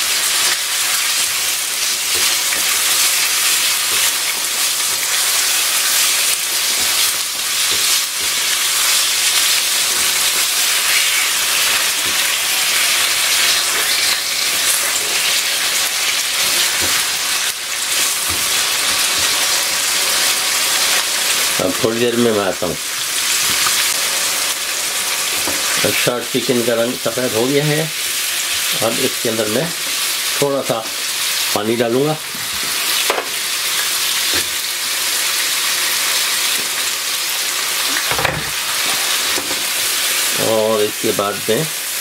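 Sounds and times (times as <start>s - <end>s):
meat sizzling in oil: 0.0s - 42.0s.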